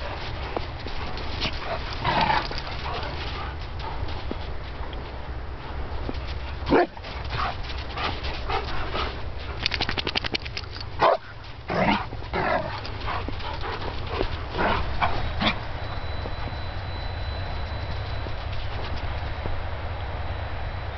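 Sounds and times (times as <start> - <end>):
dogs barking and yipping: 0.0 - 19.2
steady low rumble: 0.0 - 20.9.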